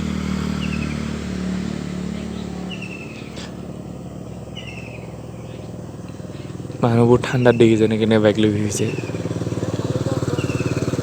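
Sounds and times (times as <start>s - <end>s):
motorcycle engine passing: 0.0s - 11.0s
bird chirping: 0.5s - 1.1s, 2.2s - 11.0s.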